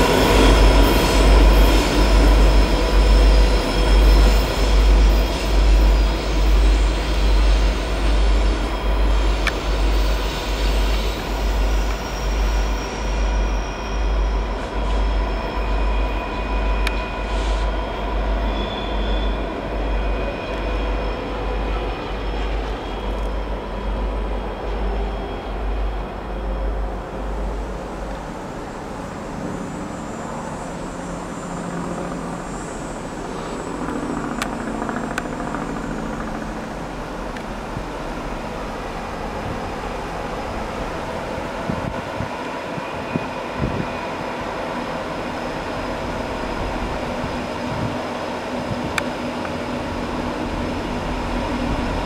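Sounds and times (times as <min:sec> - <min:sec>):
diesel locomotive rumble: 0:00.0 - 0:52.0.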